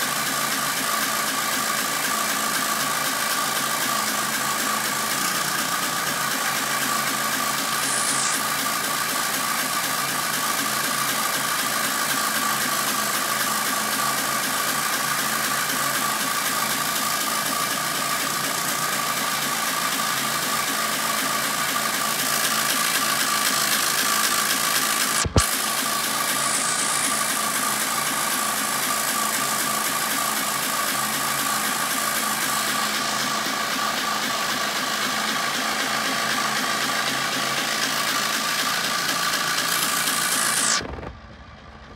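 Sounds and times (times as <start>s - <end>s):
constant whining tone: 0.0s - 41.9s
tractor engine running: 0.0s - 41.9s.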